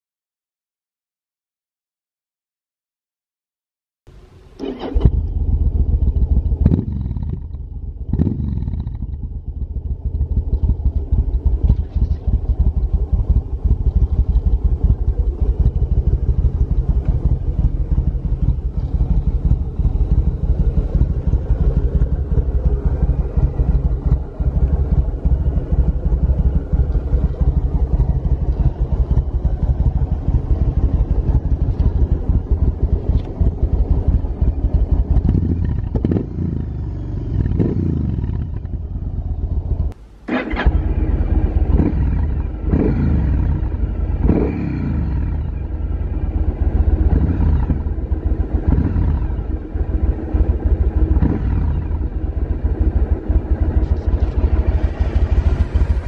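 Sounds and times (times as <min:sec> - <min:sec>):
engine throttle blips: 0:04.1 - 0:56.0
motorcycle engine idling: 0:04.1 - 0:56.0.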